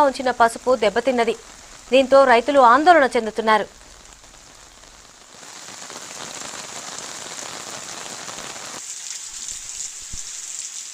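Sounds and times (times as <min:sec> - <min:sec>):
rain on hard surfaces: 0:00.0 - 0:10.9.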